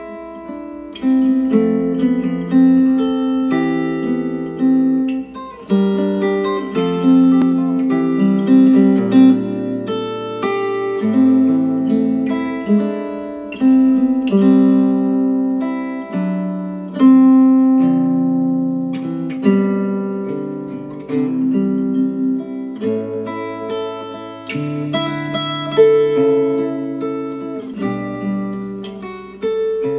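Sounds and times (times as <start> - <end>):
guitar plucked and strummed chords: 0.0 - 29.9.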